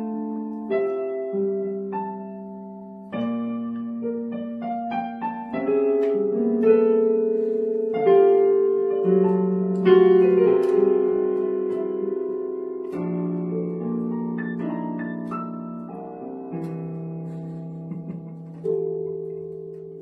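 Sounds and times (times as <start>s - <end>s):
digital piano chords: 0.0s - 20.0s.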